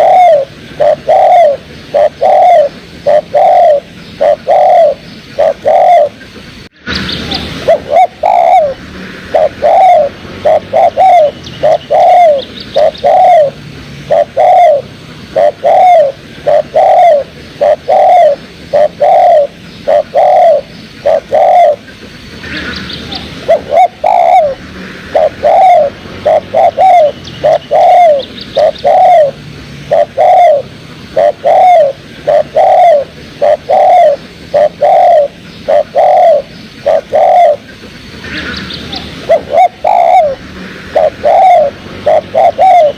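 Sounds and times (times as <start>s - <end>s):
dove cooing: 0.0s - 6.3s, 7.0s - 42.9s.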